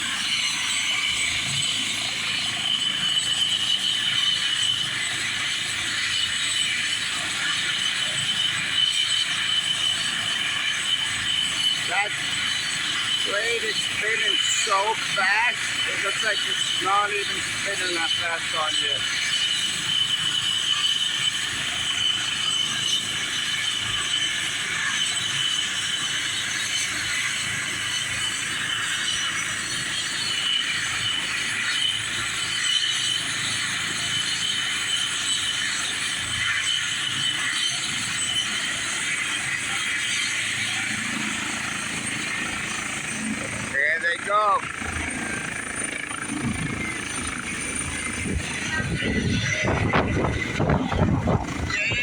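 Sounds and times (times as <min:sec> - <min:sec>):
helicopter turbine engine running: 0:00.0 - 0:52.0.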